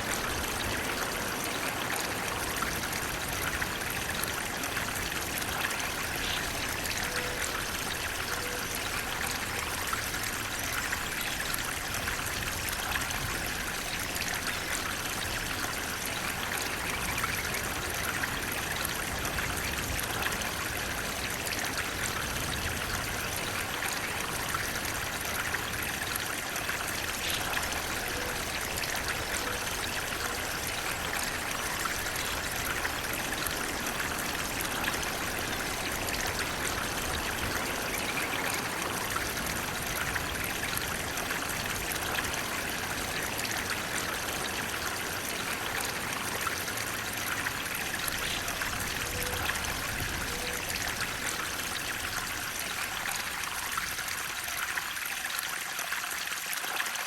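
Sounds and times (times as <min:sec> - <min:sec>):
water rushing and trickling: 0:00.0 - 0:57.0.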